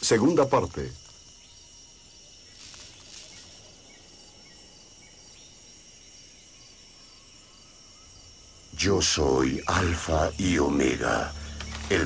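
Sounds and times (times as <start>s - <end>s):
crickets and insects trilling: 0.0s - 12.0s.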